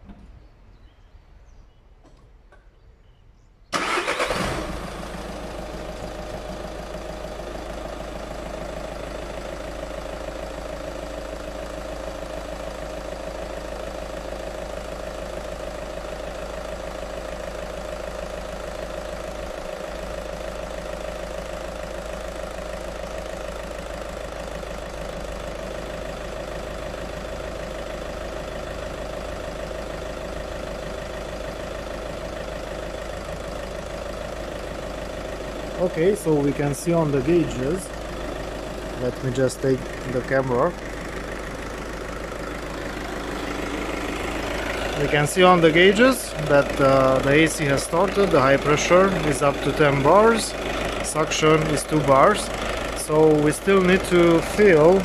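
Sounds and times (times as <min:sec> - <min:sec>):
car engine starting and idling: 0:00.0 - 0:55.0.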